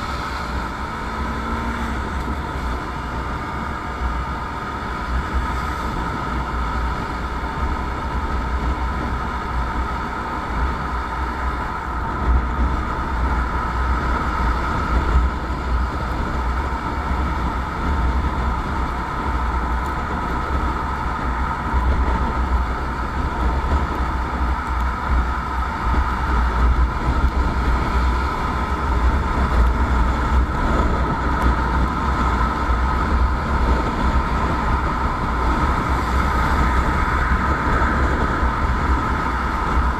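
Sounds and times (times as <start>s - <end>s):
motorcycle engine and road noise: 0.0s - 39.9s
wind rumble on microphone: 0.0s - 39.9s.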